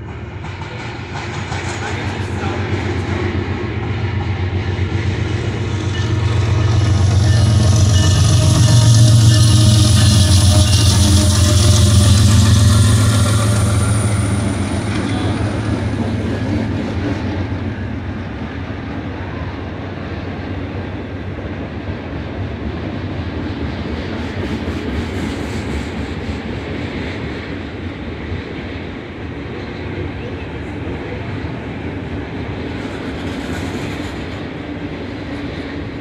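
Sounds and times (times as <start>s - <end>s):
diesel locomotive engine drone: 0.0s - 36.0s
freight cars rumbling on rails: 0.0s - 36.0s.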